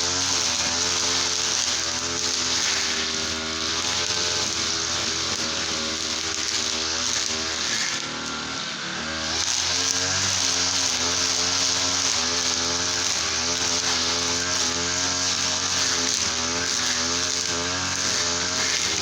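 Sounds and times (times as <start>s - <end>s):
brush cutter engine running: 0.0s - 19.0s.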